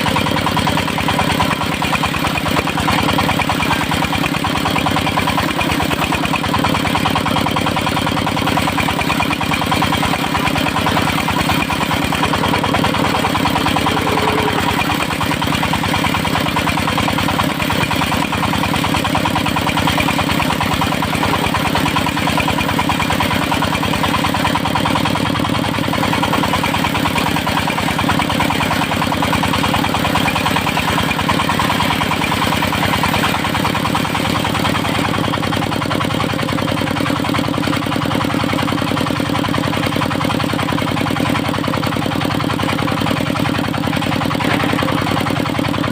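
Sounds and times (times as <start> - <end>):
sawmill engine running: 0.0 - 45.9.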